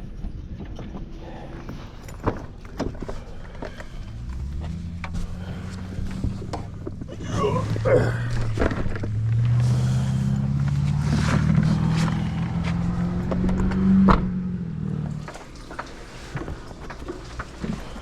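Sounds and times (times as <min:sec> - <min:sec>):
vehicle engine humming: 0:01.7 - 0:18.0.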